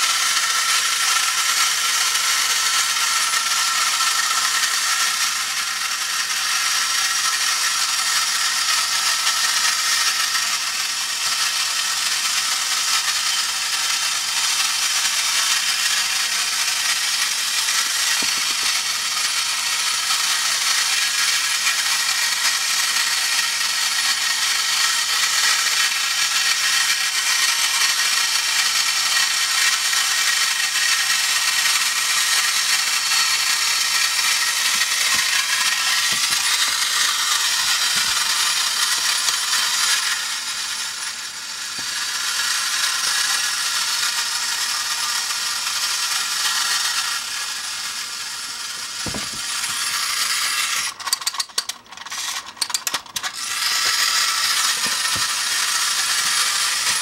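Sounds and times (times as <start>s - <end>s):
clockwork toy gears whirring: 0.0s - 57.0s.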